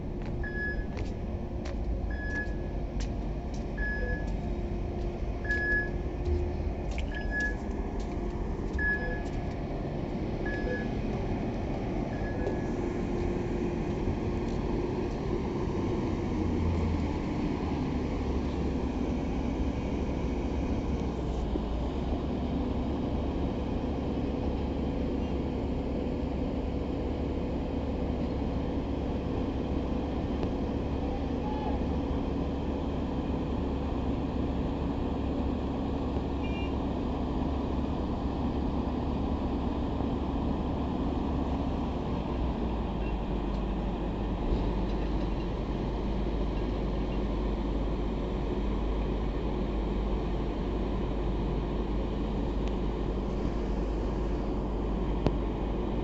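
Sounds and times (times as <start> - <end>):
heavy machinery droning: 0.0 - 56.0.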